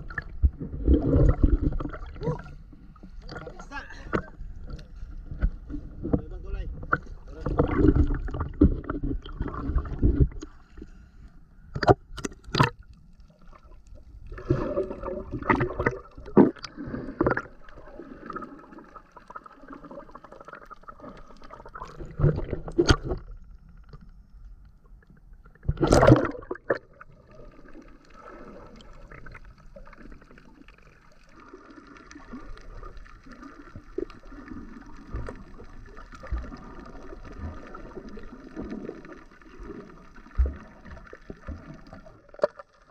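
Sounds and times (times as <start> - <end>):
water sloshing and splashing: 0.0 - 24.2, 25.0 - 42.9
muffled underwater wash: 0.0 - 42.9.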